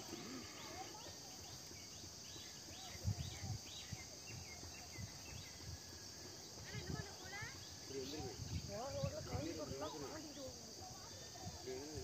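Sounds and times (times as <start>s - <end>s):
bird chirping: 0.0s - 10.6s
insect drone: 0.0s - 12.0s.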